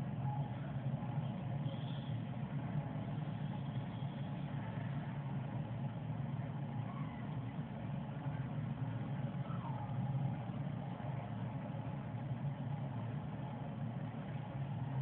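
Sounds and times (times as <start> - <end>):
low hum of machinery or traffic: 0.0 - 15.0.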